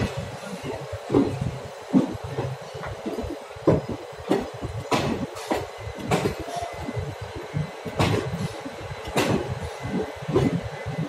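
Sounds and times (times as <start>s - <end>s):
train coaches rumbling past: 0.0s - 11.0s.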